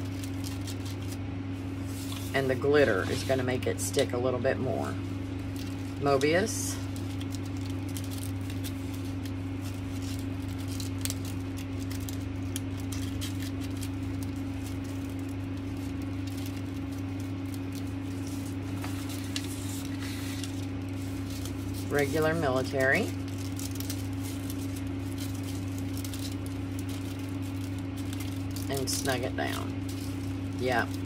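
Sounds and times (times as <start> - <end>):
ribbon rustling: 0.0 - 3.7, 5.2 - 31.0
steady low hum: 0.0 - 31.0.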